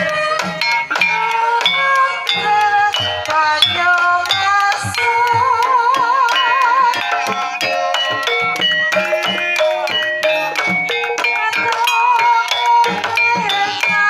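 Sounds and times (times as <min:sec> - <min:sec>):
hand drum strokes: 0:00.0 - 0:14.0
struck metallophone notes: 0:00.0 - 0:14.0.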